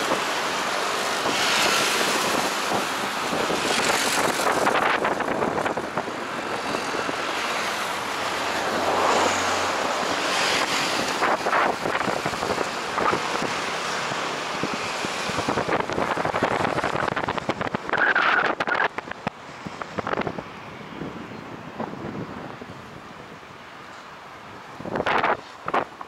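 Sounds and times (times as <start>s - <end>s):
wind on microphone: 0.0s - 23.5s, 24.5s - 26.0s
road traffic passing: 0.0s - 26.0s.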